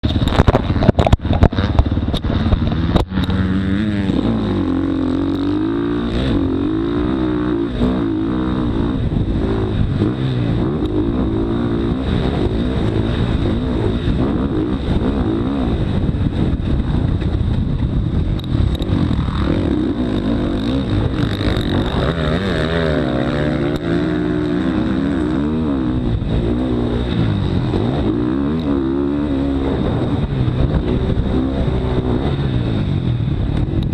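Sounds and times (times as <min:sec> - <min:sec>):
dirt bike engine revving: 0:00.0 - 0:17.4, 0:18.0 - 0:33.9.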